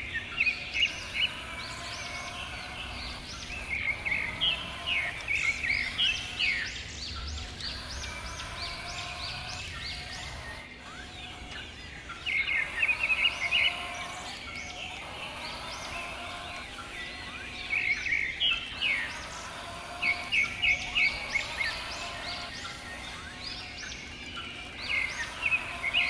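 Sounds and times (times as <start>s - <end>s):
birds chirping and twittering: 0.0s - 26.0s
rapid bird trilling: 0.0s - 26.0s.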